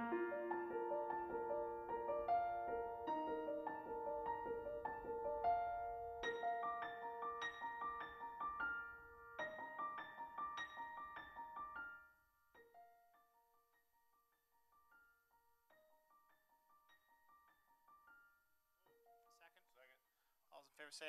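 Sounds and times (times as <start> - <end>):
slow piano melody: 0.0 - 19.6.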